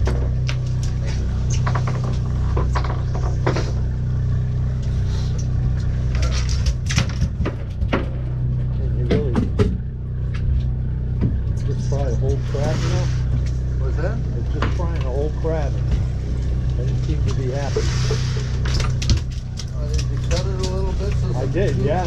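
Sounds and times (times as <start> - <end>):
knocks and clatter: 0.0 - 4.8, 5.4 - 12.4, 14.4 - 22.0
boat engine humming: 0.0 - 22.0.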